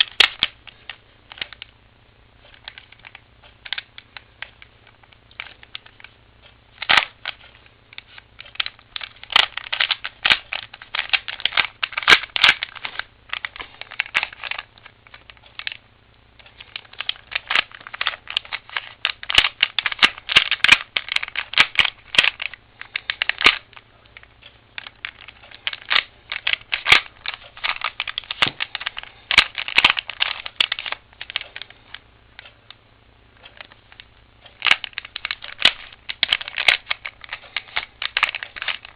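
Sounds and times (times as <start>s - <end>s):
puzzle cube plastic clicks: 0.0s - 1.7s, 2.4s - 6.1s, 6.8s - 15.8s, 16.4s - 32.5s, 33.4s - 38.9s.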